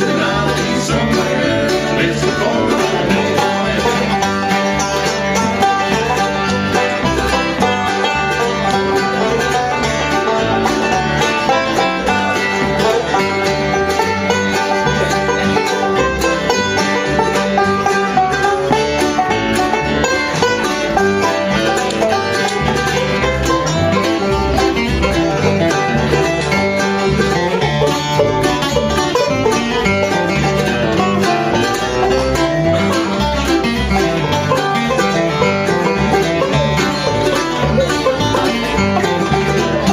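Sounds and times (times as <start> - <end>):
acoustic guitar: 0.0 - 39.9
banjo: 0.0 - 39.9
bluegrass band playing: 0.0 - 39.9.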